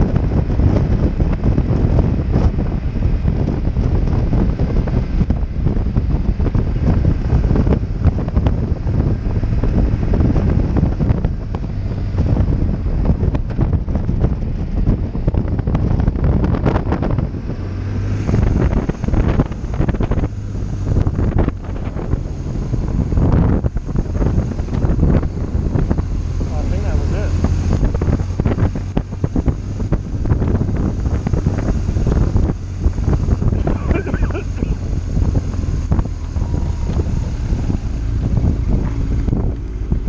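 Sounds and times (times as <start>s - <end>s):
motorcycle engine drone: 0.0s - 40.0s
wind buffeting microphone: 0.0s - 40.0s.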